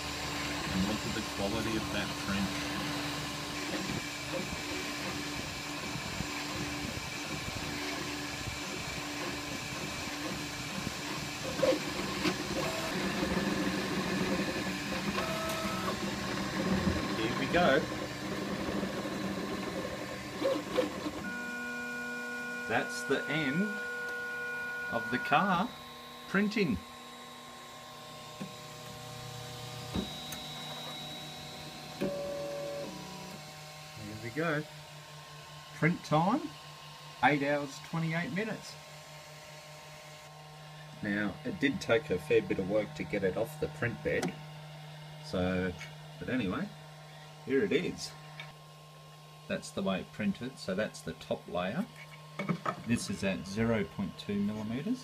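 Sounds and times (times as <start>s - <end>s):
humming stepper motor tones: 0.0s - 55.0s.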